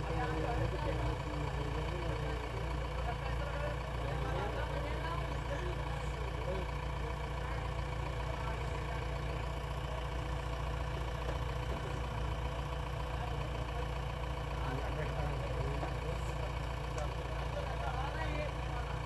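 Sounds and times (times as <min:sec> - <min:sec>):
diesel machinery idling: 0:00.0 - 0:19.0.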